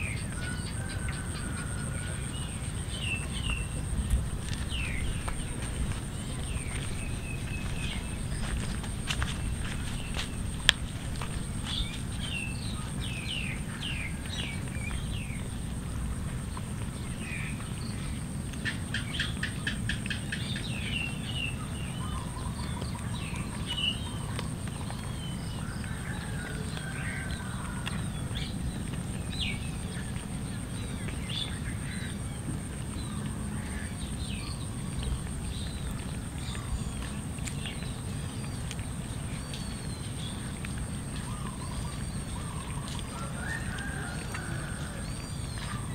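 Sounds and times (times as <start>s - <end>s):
low outdoor rumble: 0.0s - 45.9s
small birds chirping: 0.0s - 45.9s.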